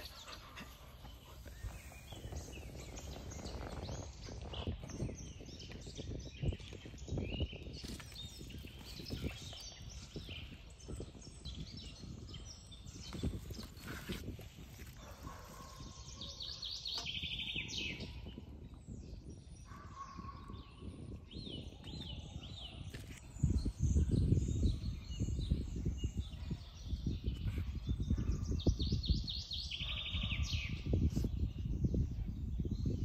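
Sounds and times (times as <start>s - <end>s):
songbirds singing: 0.0s - 33.0s.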